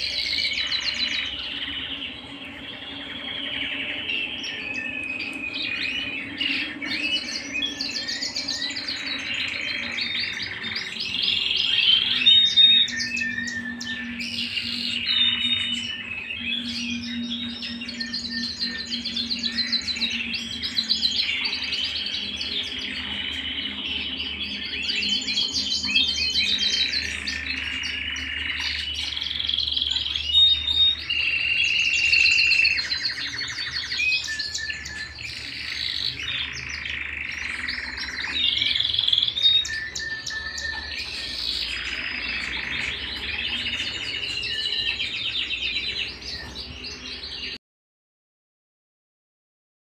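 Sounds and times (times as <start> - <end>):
canary singing trills: 0.0 - 47.6.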